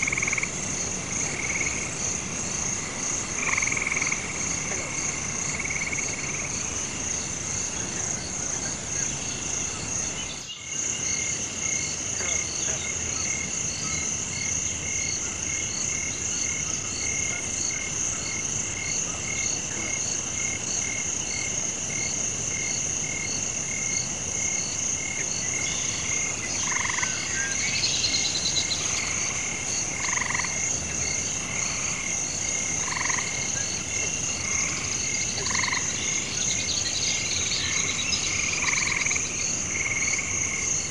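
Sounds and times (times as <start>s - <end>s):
frogs croaking: 0.0s - 40.9s
high insect drone: 0.0s - 40.9s.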